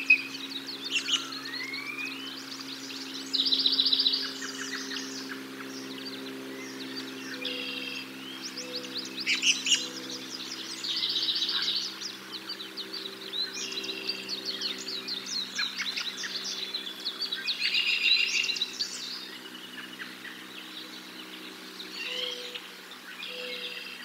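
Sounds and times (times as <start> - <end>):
songbirds singing and chirping: 0.0 - 24.0.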